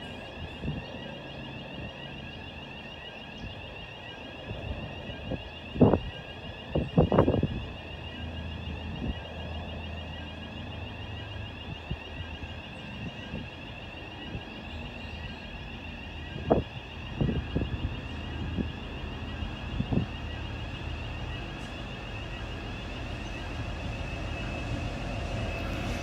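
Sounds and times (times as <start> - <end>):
locomotive engine low hum: 0.0 - 26.0
wind buffeting microphone: 0.0 - 26.0.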